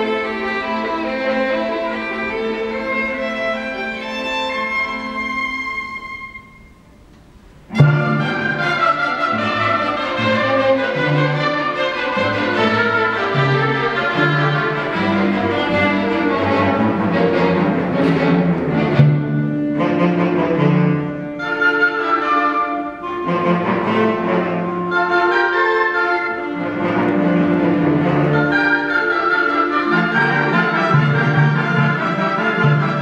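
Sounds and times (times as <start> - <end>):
symphony orchestra playing: 0.0 - 33.0.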